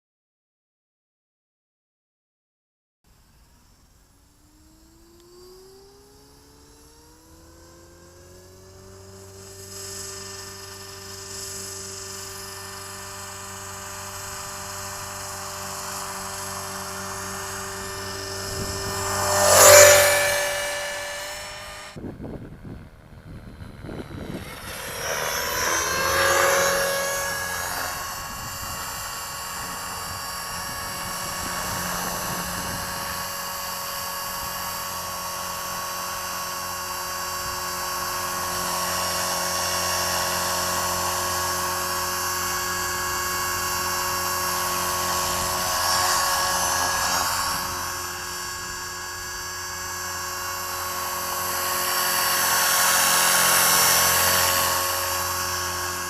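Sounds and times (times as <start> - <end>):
rc helicopter whine: 3.1 - 56.0.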